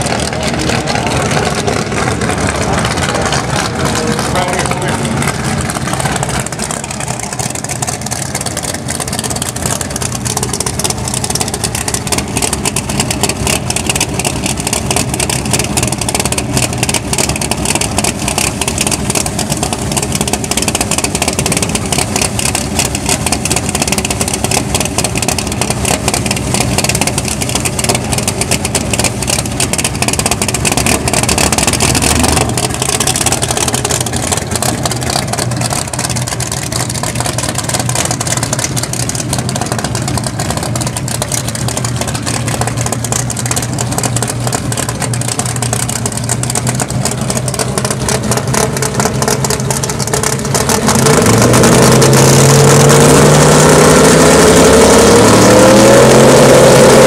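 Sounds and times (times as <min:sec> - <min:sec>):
racing engines crackling drone: 0:00.0 - 0:57.0.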